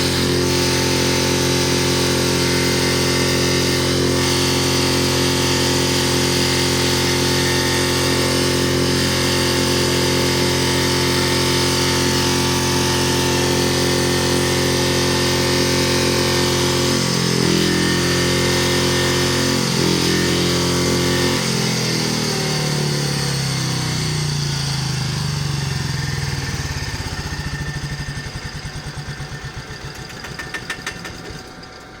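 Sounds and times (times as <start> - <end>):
diesel engine racing and winding down: 0.0 - 32.0.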